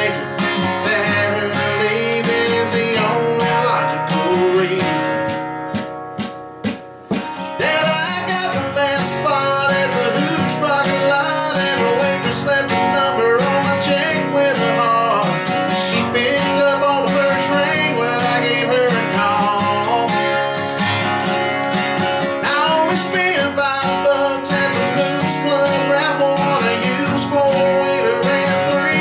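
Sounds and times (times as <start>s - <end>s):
man singing: 0.0s - 5.4s, 7.5s - 21.4s, 22.2s - 29.0s
acoustic guitars strumming: 0.0s - 29.0s.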